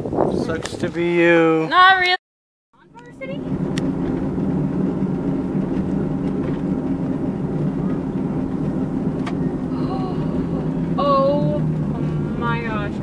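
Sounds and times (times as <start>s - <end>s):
car engine and road noise: 0.0s - 2.2s, 2.8s - 13.0s.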